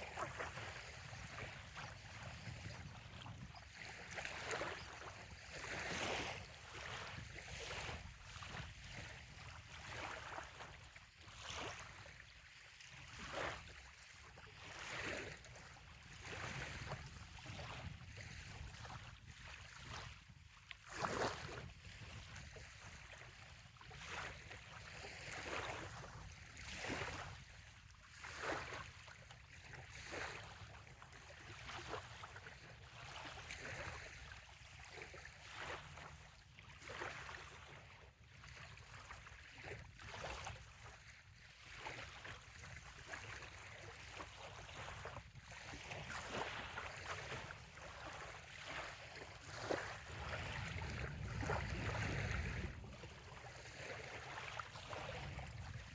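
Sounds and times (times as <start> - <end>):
waves lapping on sandy shore: 0.0 - 55.9.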